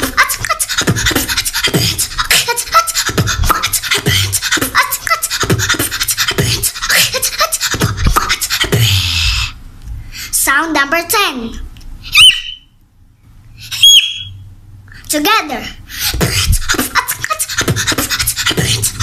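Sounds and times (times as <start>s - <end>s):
girl beatboxing: 0.0s - 9.6s, 10.2s - 12.4s, 14.9s - 19.0s.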